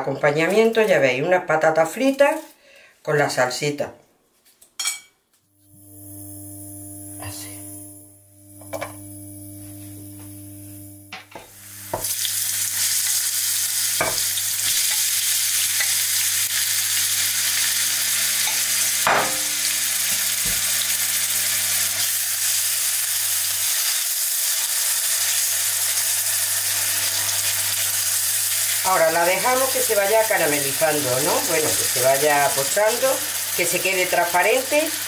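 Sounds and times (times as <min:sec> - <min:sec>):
garlic and onion sizzling in oil: 0:05.5 - 0:35.0.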